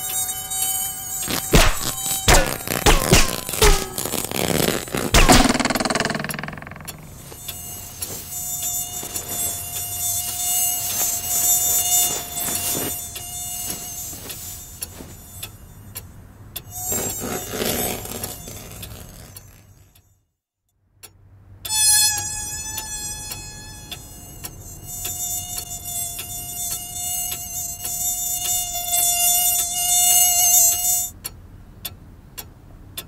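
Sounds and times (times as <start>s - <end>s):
cartoon insect buzzing: 0.0s - 16.0s, 16.7s - 19.9s, 21.7s - 31.1s.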